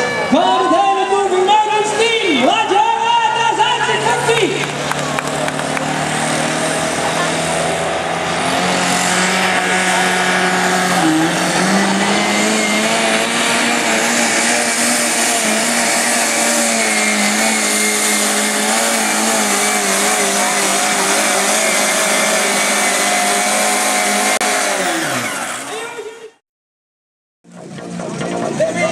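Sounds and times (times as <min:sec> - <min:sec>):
tractor engine at full throttle: 0:00.0 - 0:26.4, 0:27.5 - 0:28.9.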